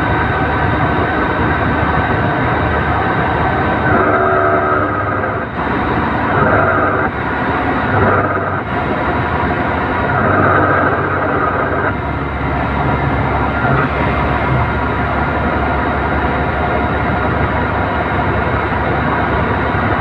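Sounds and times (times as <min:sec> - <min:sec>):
steady hum on throttle lift-off: 0:00.0 - 0:20.0
vehicle driving: 0:00.0 - 0:20.0.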